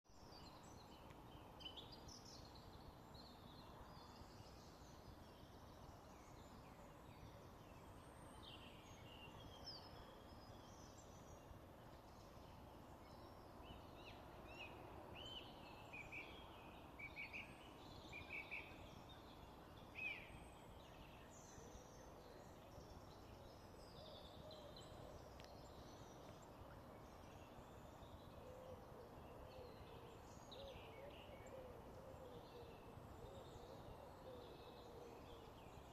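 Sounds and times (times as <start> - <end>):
low background hiss: 0.1 - 35.9
songbirds chirping: 0.1 - 35.9.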